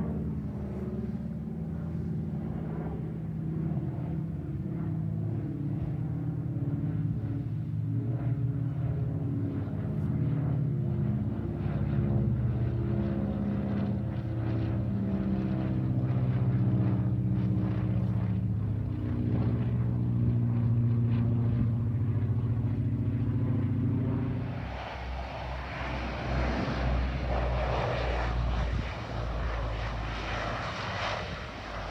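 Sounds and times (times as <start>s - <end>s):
propeller aircraft droning overhead: 0.0s - 31.9s.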